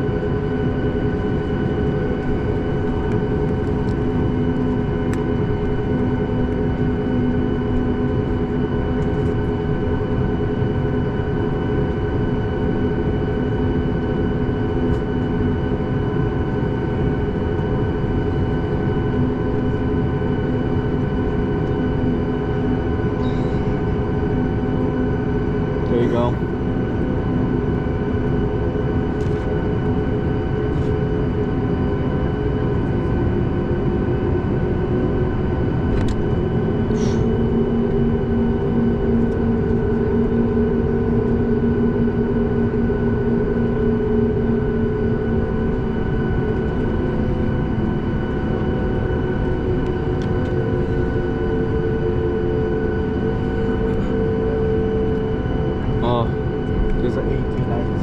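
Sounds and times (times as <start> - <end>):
airliner cabin engine drone: 0.0 - 58.0
steady hum tones: 0.0 - 58.0.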